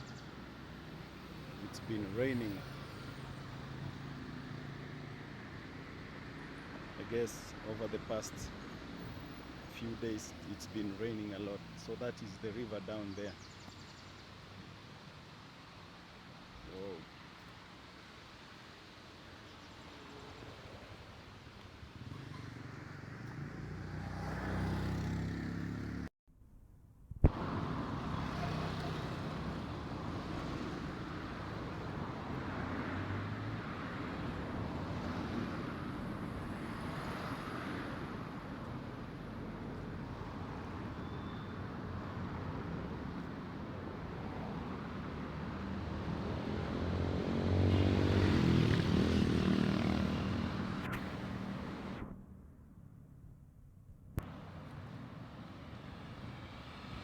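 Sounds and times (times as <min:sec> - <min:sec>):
vehicles passing: 0:00.0 - 0:26.1, 0:27.3 - 0:53.0, 0:54.2 - 0:57.0
steady traffic hum: 0:00.0 - 0:57.0.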